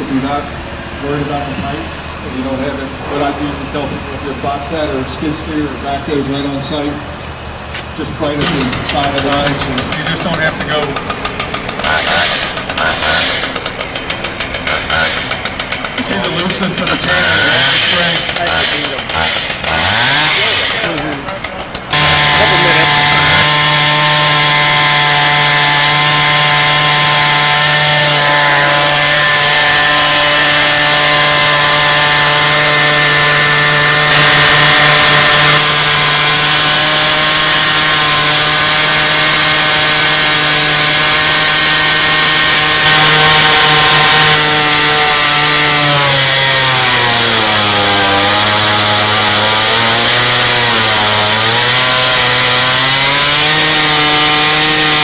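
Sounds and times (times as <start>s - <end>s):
chain saw cutting iron pipe: 8.0s - 55.0s.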